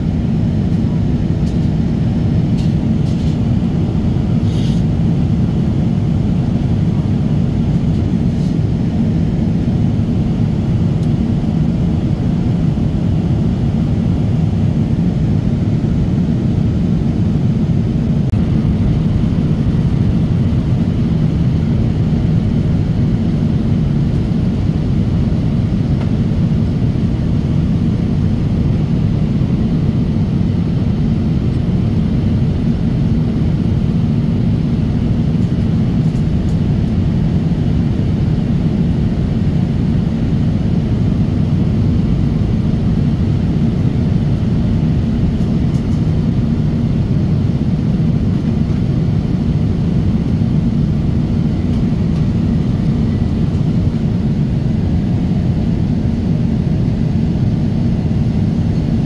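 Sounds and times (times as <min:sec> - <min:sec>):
jet airliner cabin rumble: 0:00.0 - 0:59.0.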